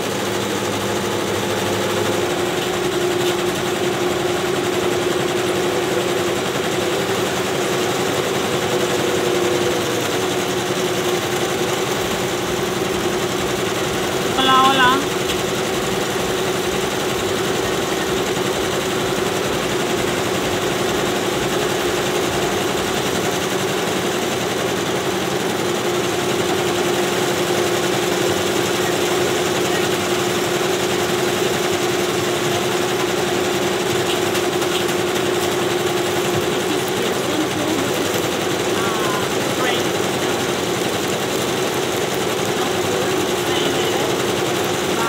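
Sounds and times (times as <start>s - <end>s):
embroidery machines stitching: 0.0s - 45.0s.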